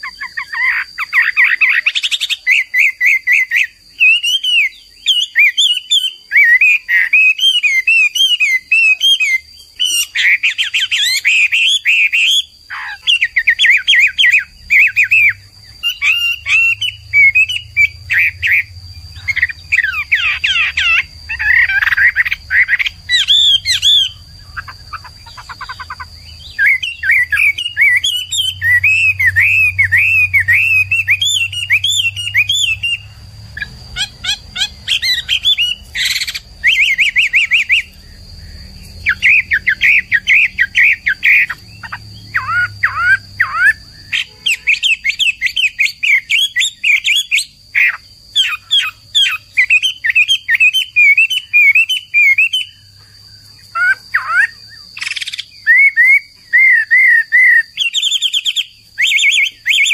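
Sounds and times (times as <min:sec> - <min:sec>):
bird singing whistled phrases: 0:00.0 - 0:38.0, 0:39.0 - 0:52.8, 0:53.8 - 0:59.9.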